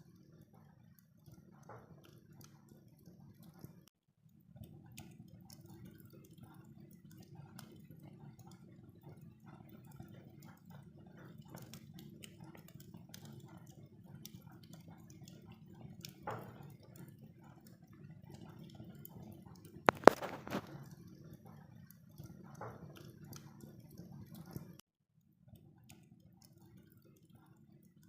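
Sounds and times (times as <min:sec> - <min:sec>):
fire crackling: 0:00.2 - 0:03.9, 0:04.6 - 0:24.8.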